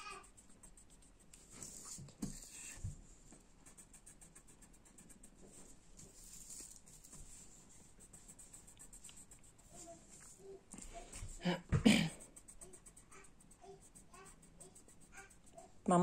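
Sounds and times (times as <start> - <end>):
pencil scribbling on paper: 0.0 - 2.9, 3.5 - 16.0.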